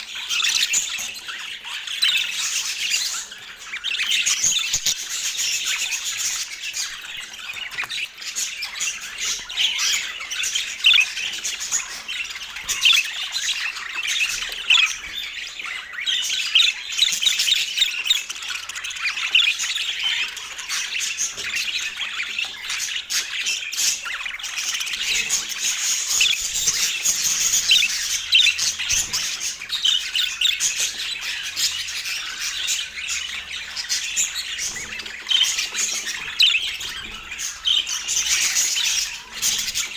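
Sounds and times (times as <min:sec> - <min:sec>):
budgerigar chatter: 0:00.0 - 0:39.9.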